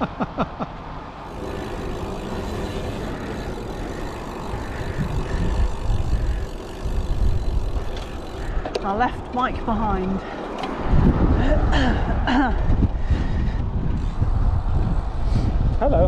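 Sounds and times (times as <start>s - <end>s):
tyre and road noise: 0.0s - 16.0s
wind buffeting microphone: 1.2s - 16.0s.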